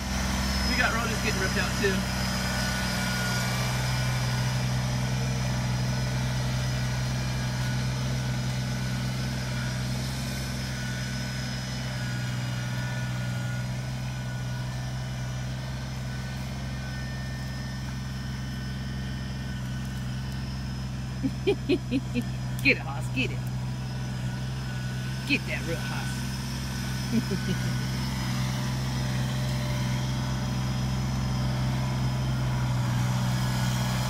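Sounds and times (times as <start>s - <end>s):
backhoe engine running: 0.0s - 34.0s.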